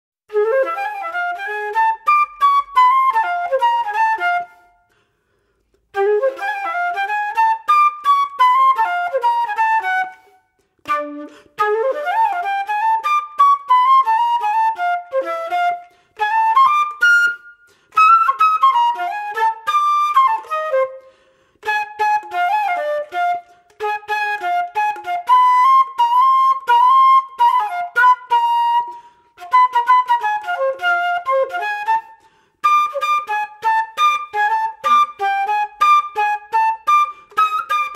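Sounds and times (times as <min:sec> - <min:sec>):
solo instrumental melody: 0:05.9 - 0:37.9.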